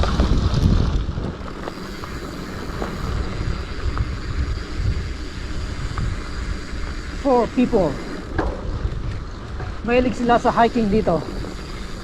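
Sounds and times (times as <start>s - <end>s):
bike tyres rumbling on dirt: 0.0s - 12.0s
wind buffeting microphone: 0.0s - 12.0s.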